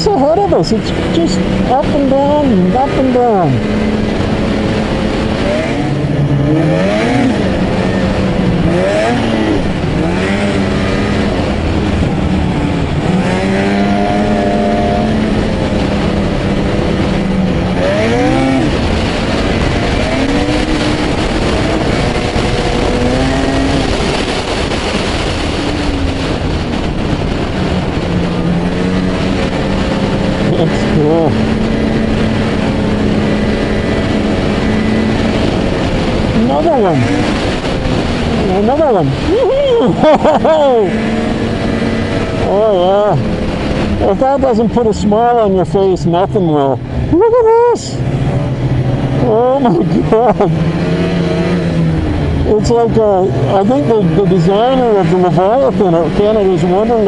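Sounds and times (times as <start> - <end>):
snowmobile engine revving: 0.0 - 57.0
steady rushing noise: 0.0 - 57.0.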